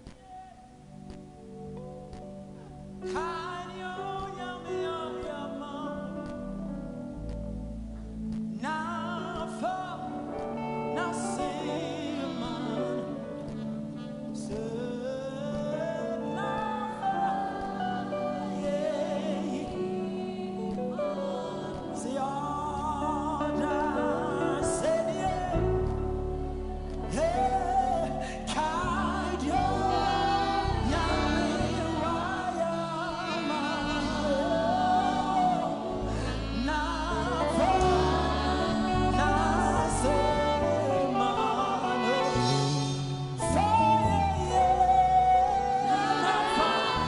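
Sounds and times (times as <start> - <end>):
voices singing gospel song: 0.0 - 7.4, 8.2 - 47.0
instrumental accompaniment: 0.0 - 47.0.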